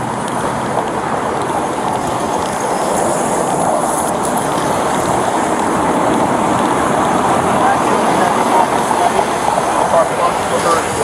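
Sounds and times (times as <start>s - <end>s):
passing traffic road noise: 0.0s - 11.0s.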